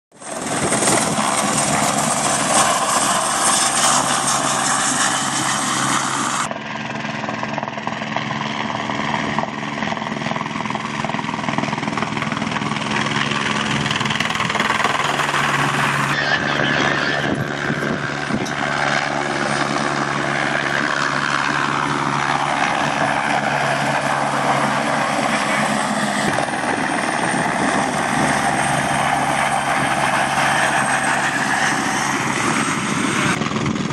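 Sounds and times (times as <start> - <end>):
helicopter flying past: 0.1 - 33.9.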